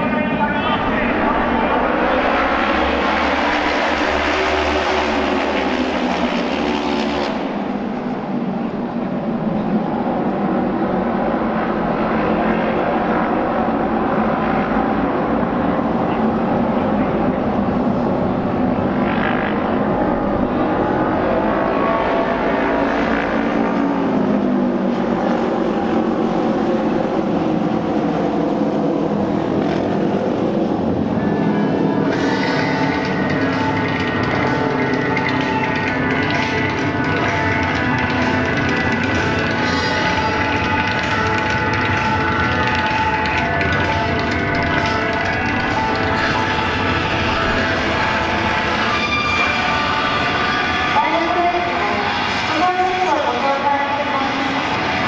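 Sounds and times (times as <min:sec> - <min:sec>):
racing motorcycles passing by: 0:00.0 - 0:55.0.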